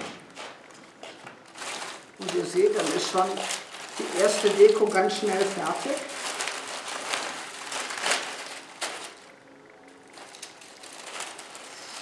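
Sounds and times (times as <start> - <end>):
dry vines rustling and crackling: 0.3 - 9.4, 10.0 - 12.0.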